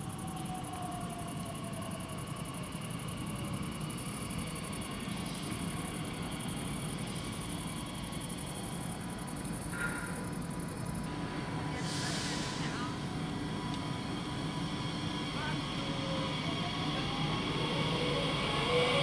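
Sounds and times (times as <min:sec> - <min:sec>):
insects chirping: 0:00.0 - 0:18.7
electric train motor whine: 0:00.0 - 0:19.0
low train rumble: 0:00.0 - 0:19.0.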